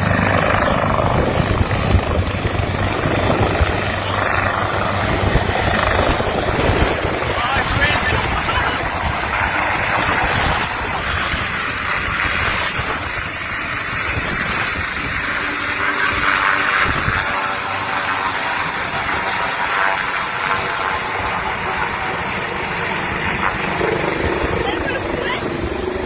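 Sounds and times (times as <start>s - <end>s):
helicopter rotor rush: 0.0s - 26.0s
helicopter turbine whine: 0.0s - 26.0s.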